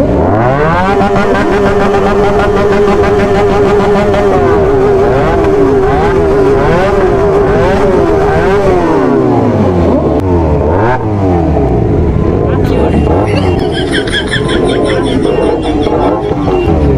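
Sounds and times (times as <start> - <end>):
motorcycle engines revving: 0.0 - 16.9.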